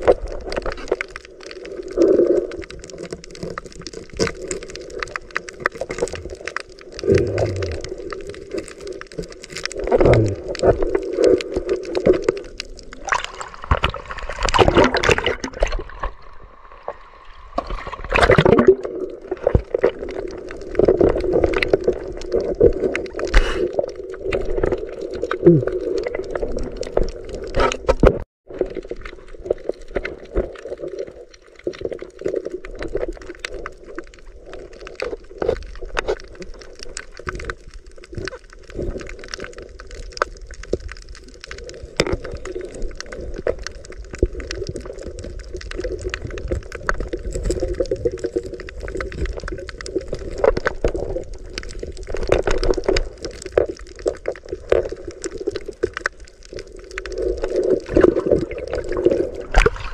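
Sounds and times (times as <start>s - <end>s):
sharp clicks and crackles: 0.0s - 59.9s
underwater water sloshing: 0.0s - 59.9s.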